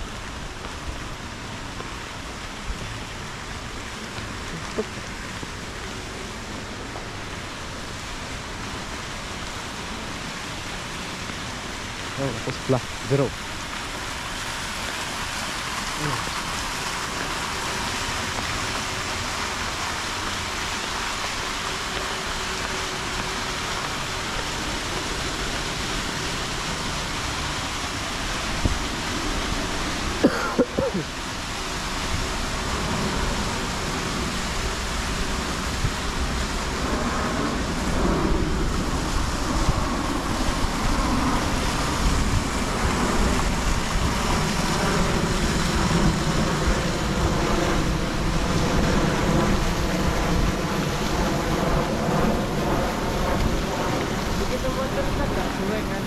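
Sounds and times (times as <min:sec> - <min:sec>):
fountain jets splashing into water: 0:00.0 - 0:56.0.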